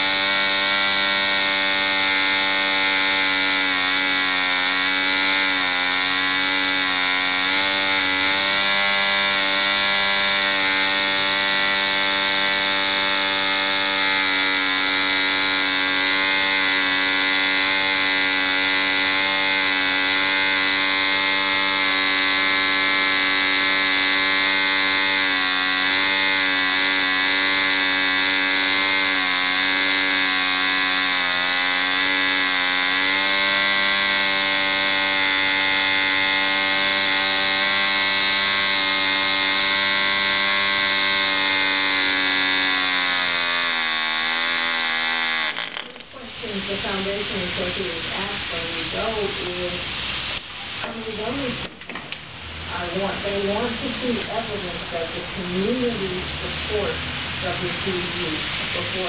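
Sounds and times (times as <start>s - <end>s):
model engine high buzz: 0.0s - 59.0s.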